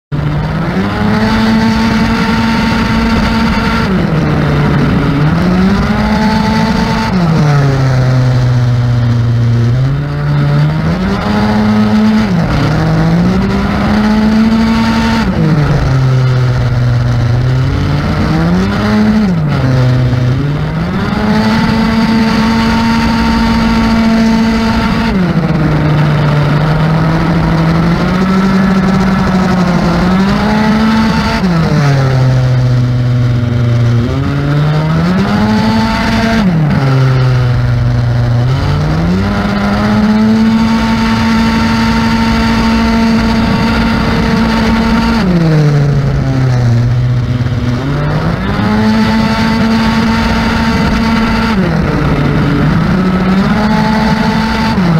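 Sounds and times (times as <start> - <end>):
two-stroke scooter engine revving: 0.1 - 54.9.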